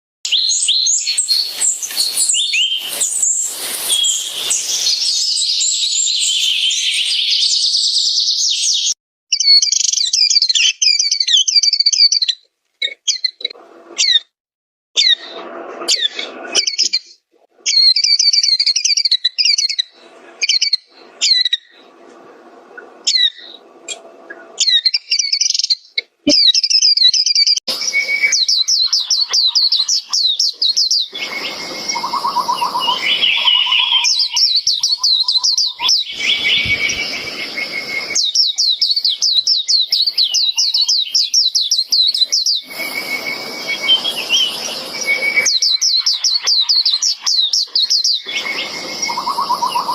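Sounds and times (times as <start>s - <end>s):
bird twittering and trilling: 0.3s - 14.2s, 15.0s - 21.9s, 23.0s - 49.9s.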